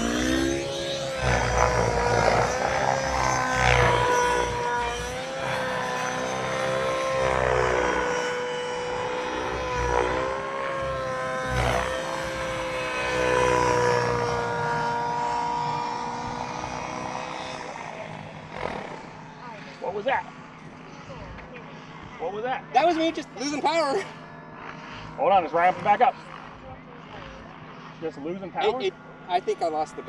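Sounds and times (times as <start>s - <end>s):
rc helicopter engine whine: 0.0s - 30.0s.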